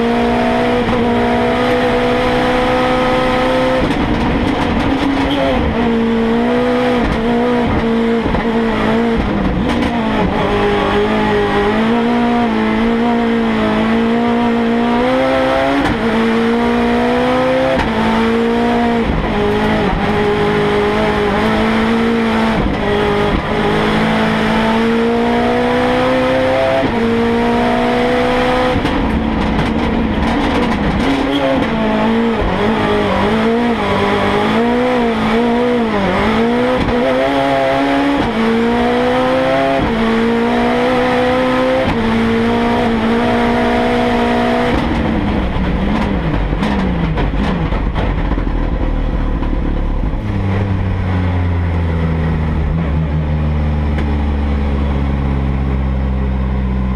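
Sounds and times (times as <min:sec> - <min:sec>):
race car engine at high revs: 0:00.0 - 0:56.9.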